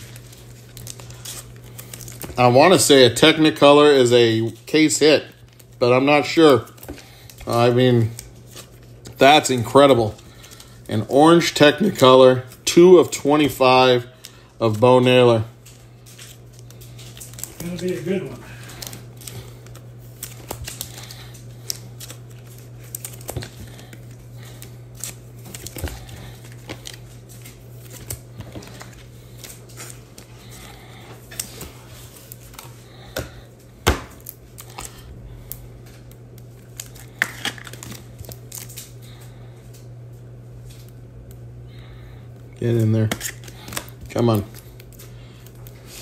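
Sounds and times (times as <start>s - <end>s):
plastic sleeves crinkling: 0.0s - 46.0s
steady low hum: 0.0s - 46.0s.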